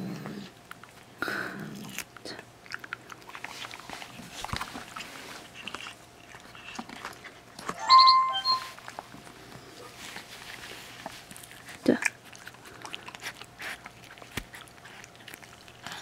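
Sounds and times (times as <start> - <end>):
animals chewing jerky: 0.0 - 7.7, 8.8 - 16.0.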